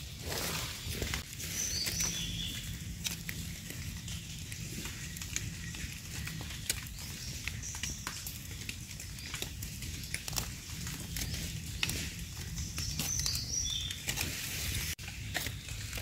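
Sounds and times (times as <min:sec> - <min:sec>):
leaf litter crackling and rustling: 0:00.0 - 0:16.0.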